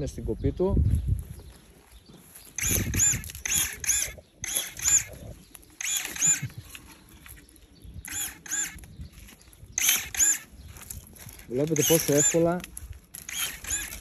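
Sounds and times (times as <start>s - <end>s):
pruning shears motor whine: 2.4s - 14.0s.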